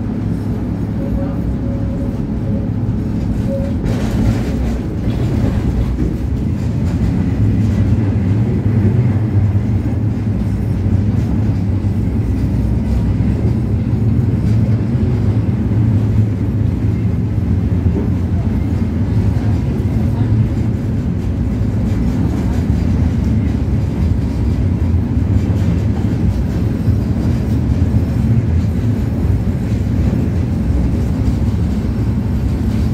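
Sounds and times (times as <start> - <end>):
tram wheels rumbling on rails: 0.0 - 32.9.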